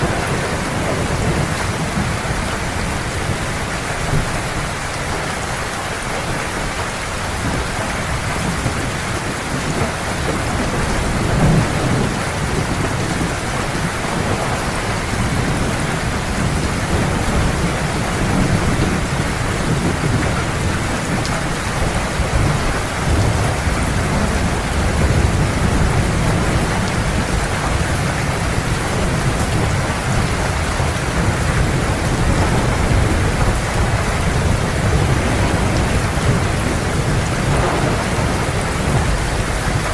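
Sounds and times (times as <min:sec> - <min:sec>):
thunder rumbling: 0:00.0 - 0:05.2, 0:06.0 - 0:39.9
heavy rain: 0:00.0 - 0:39.9.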